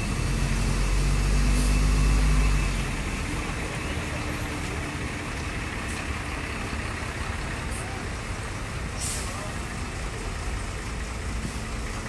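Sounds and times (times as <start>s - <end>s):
coach diesel engine running: 0.0s - 12.0s.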